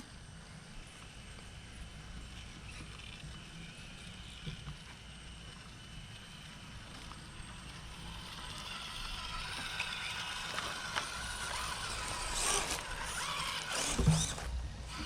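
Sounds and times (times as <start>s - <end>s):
electric motor and gears whining: 0.0s - 15.0s
clicks and scrapes of toy truck: 2.3s - 15.0s.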